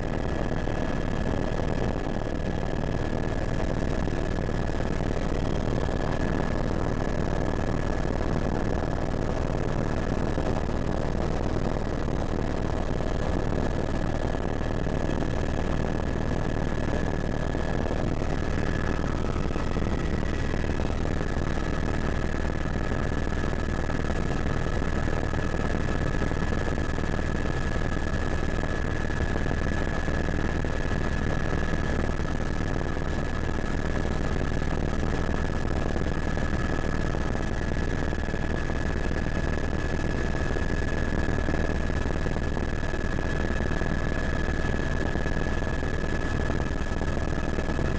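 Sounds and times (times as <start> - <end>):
helicopter engine and rotor rumble: 0.0 - 47.9.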